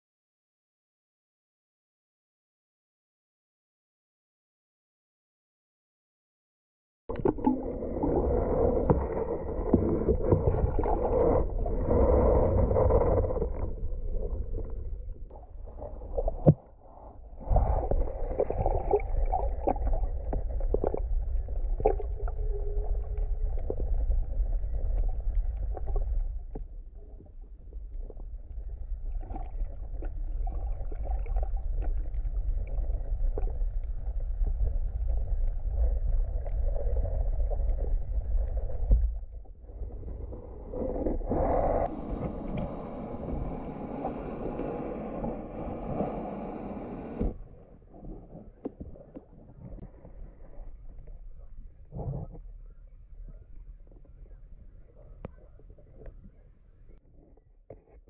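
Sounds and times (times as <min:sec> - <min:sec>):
underwater rumble and gurgling: 0:07.1 - 0:58.0.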